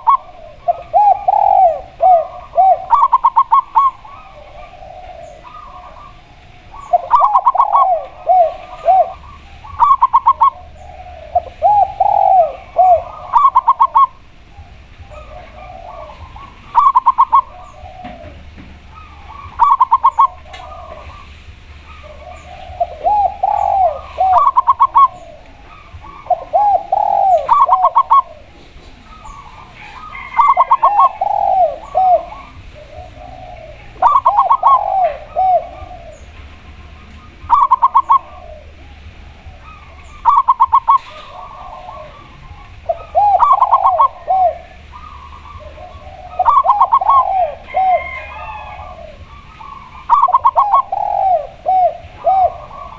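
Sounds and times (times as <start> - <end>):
doves cooing: 0.0 - 52.9.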